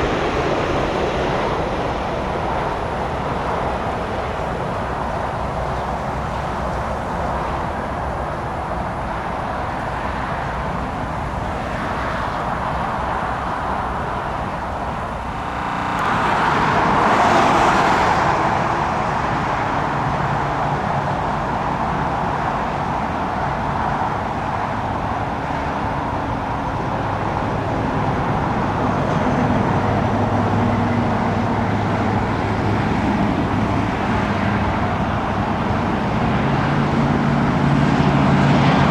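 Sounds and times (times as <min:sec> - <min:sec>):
rushing vehicle engine: 0:00.0 - 0:38.9.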